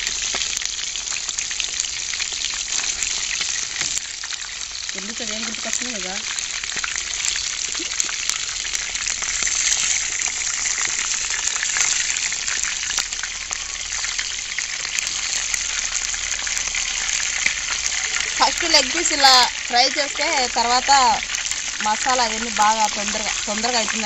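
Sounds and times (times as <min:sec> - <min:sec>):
chicken frying in hot oil: 0:00.0 - 0:24.0.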